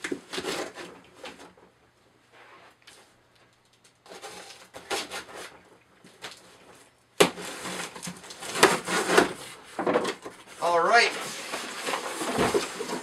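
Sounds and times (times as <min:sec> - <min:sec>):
cardboard scraping and rustling: 0:00.0 - 0:01.6, 0:04.0 - 0:13.0.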